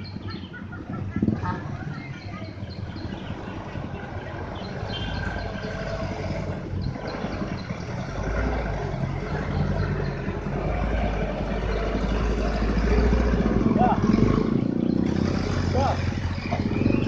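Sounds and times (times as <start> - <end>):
truck engine: 0.0 - 17.0.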